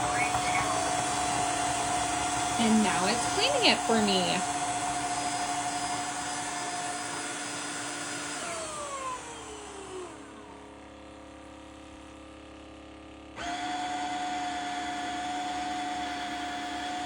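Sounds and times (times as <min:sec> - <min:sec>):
vacuum mop motor whine: 0:00.0 - 0:17.0.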